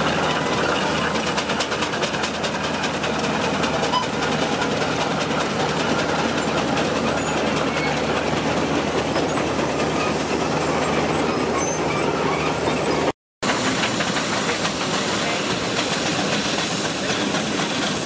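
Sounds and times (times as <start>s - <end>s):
steam locomotive running: 0.0s - 18.0s.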